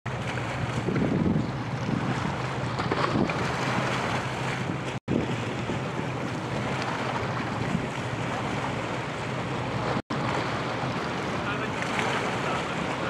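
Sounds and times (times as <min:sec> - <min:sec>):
low hum of barges: 0:00.1 - 0:13.0
river water: 0:00.1 - 0:13.0
wind buffeting microphone: 0:00.1 - 0:13.0.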